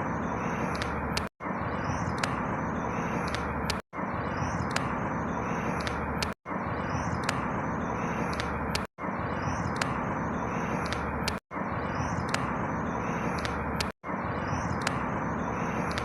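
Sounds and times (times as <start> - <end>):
high bird chirps: 0.0 - 16.0.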